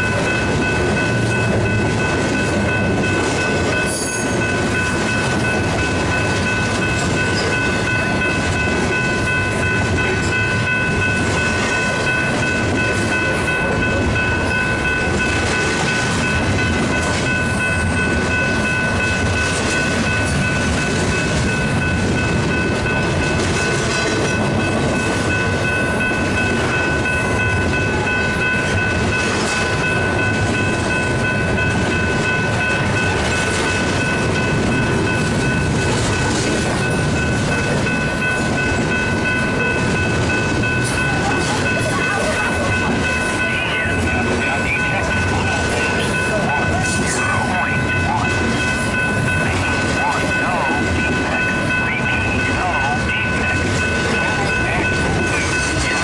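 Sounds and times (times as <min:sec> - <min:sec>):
freight train rumbling past: 0:00.0 - 0:56.0
high ringing tone: 0:00.0 - 0:56.0.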